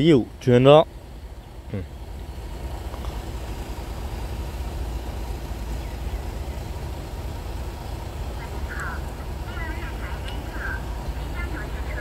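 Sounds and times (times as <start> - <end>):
distant diesel locomotive rumble: 0.0 - 12.0.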